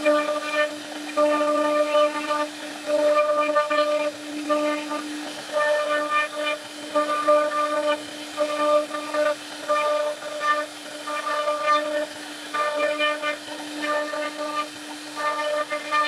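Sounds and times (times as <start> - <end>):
cutter tone in wood: 0.0 - 16.0
router spindle whining: 0.0 - 16.0.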